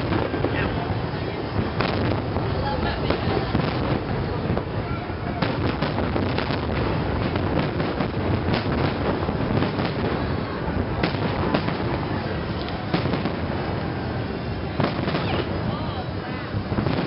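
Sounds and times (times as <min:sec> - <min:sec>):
fireworks booming: 0:00.0 - 0:17.0
fireworks crackling: 0:00.0 - 0:17.0.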